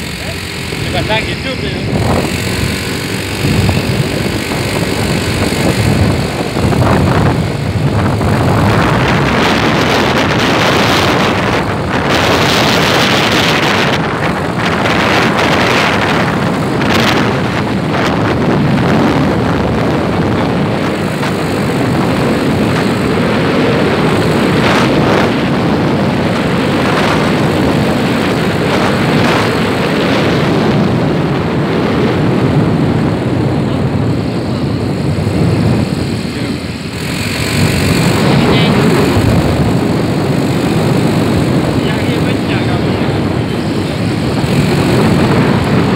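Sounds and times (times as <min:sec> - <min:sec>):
vehicle engine drone: 0:00.0 - 0:45.9
wind on microphone: 0:00.0 - 0:45.9.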